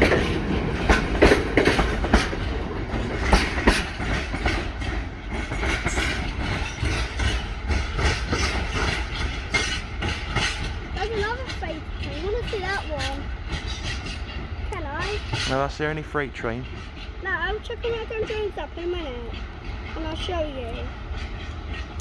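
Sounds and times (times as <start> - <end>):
low train rumble: 0.0 - 22.0
train wheels clicking over rail joints: 0.0 - 22.0.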